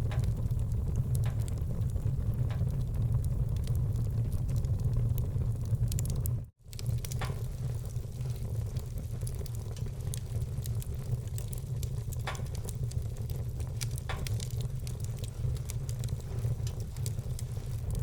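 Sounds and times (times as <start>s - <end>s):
loud fire pops: 0.0s - 18.0s
low fire rumble: 0.0s - 18.0s
wood fire crackling: 0.0s - 18.0s.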